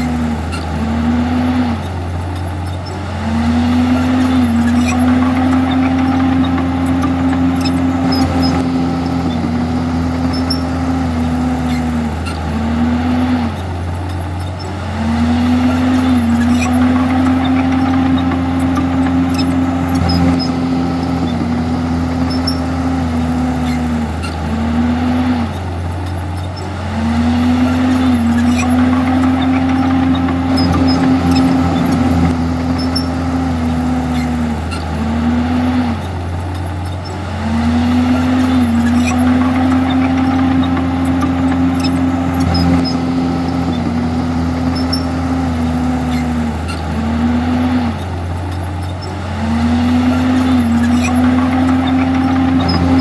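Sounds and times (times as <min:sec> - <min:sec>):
bulldozer diesel engine working: 0:00.0 - 0:53.0.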